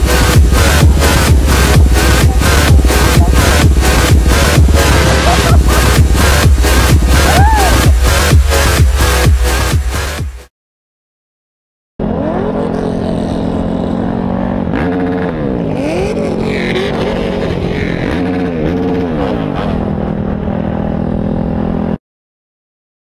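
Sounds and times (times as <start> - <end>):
dirt bike engine revving: 0.0 - 10.1, 12.0 - 22.0.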